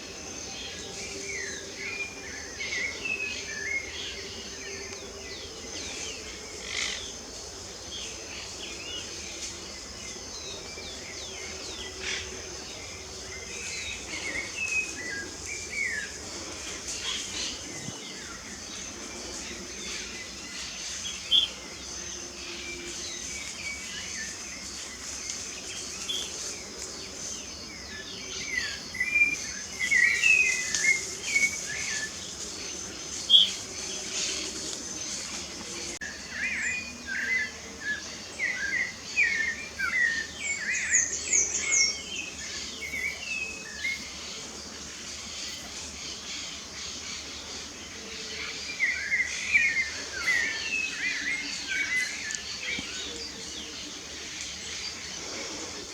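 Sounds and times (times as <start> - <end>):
insects buzzing: 0.0 - 55.9
songbirds chirping and singing: 0.0 - 55.9.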